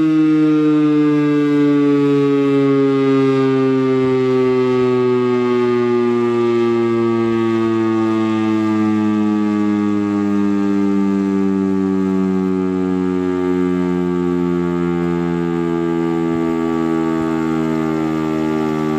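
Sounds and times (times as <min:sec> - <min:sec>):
warning siren winding down: 0:00.0 - 0:18.9.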